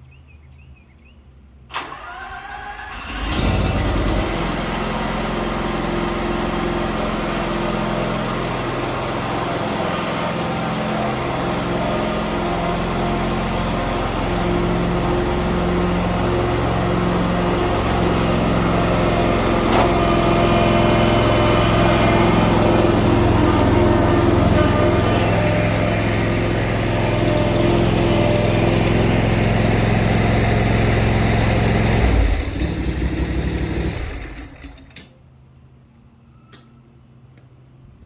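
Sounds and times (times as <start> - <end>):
lawn mower engine idling: 2.9 - 35.1.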